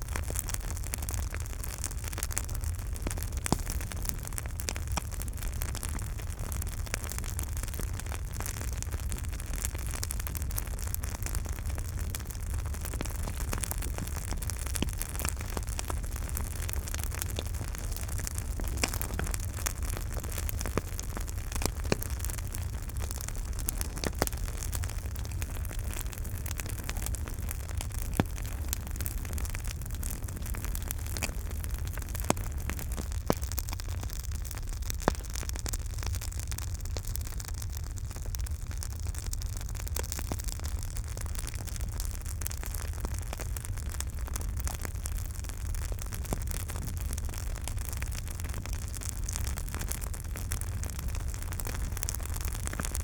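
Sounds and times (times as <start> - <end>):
campfire crackling: 0.0 - 53.0
fire popping: 0.0 - 53.0
fire rumble and hiss: 0.0 - 53.0.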